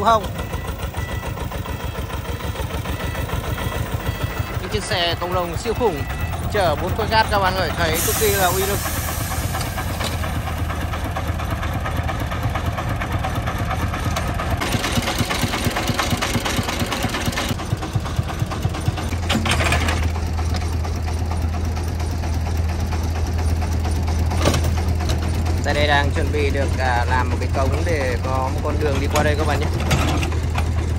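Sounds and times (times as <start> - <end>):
diesel engine idling with knocking: 0.0 - 30.9.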